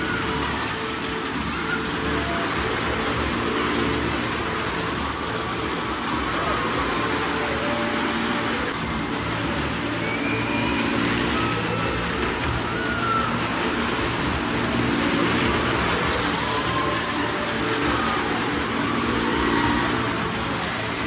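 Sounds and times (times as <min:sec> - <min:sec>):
car and motorcycle engines din: 0:00.0 - 0:21.0.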